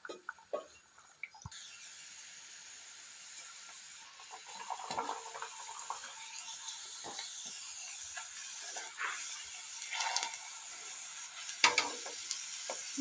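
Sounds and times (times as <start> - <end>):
deep-frying sizzle: 0.0 - 13.0.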